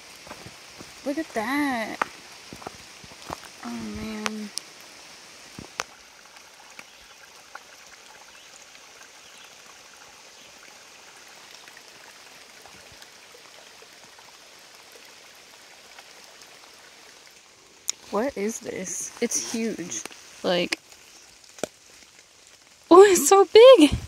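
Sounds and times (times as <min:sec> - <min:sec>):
stream trickling over rocks: 0:00.0 - 0:24.0.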